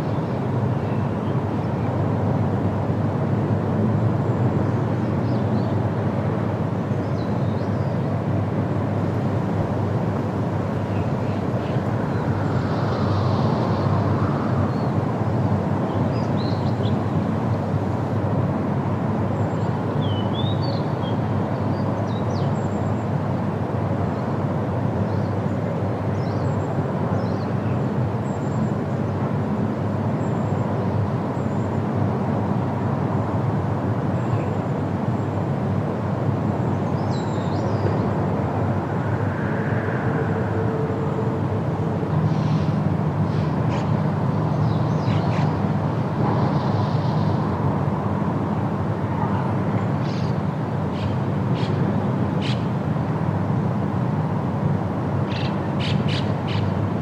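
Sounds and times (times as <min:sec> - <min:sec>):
wind rushing through foliage: 0:00.0 - 0:57.0.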